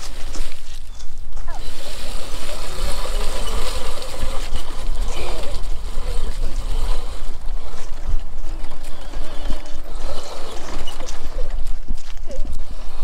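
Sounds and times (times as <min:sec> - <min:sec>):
electric toy atv driving: 0:00.0 - 0:13.0.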